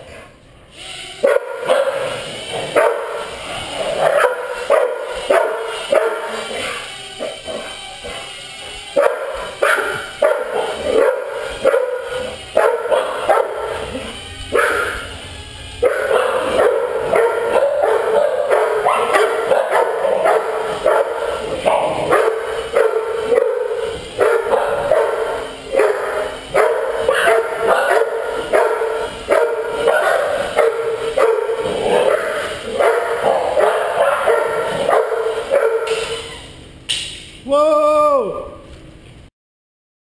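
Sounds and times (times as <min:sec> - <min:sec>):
quadcopter motors buzzing: 0:00.7 - 0:36.8
dogs barking: 0:01.2 - 0:36.6.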